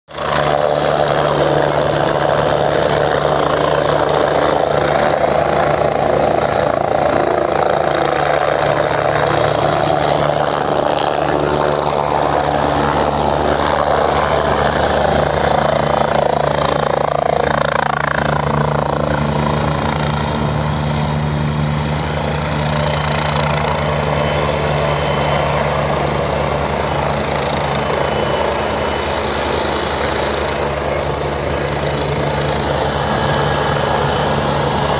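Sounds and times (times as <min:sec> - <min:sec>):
helicopter rotor and engine: 0:00.1 - 0:34.9.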